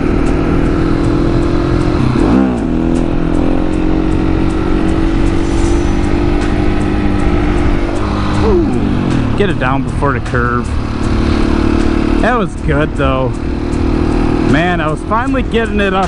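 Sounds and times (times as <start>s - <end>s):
motorcycle engine at high revs: 0.0s - 16.0s.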